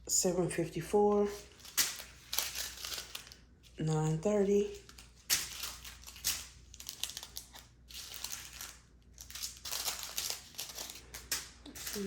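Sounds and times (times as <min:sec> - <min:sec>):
plastic bags crinkling: 0:01.1 - 0:12.0.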